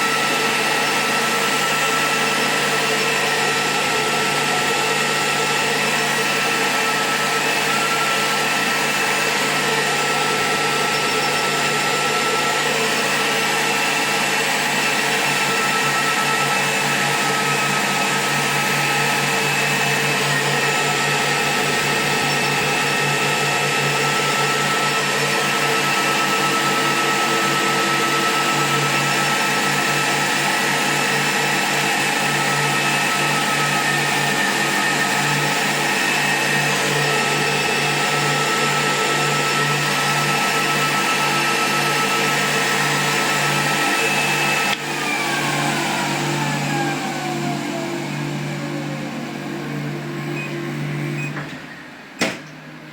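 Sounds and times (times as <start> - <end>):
small electric motor whining: 0.0 - 51.2.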